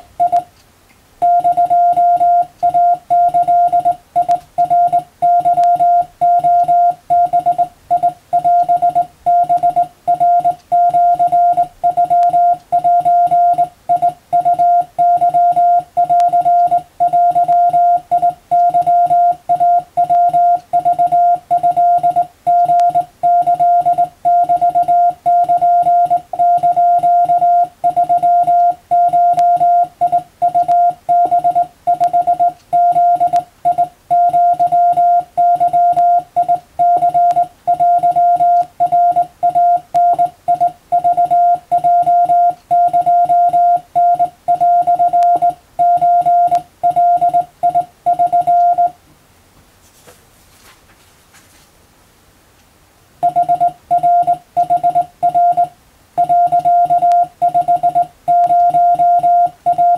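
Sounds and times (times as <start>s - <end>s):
morse code tone: 1.2s - 49.0s, 53.2s - 59.9s.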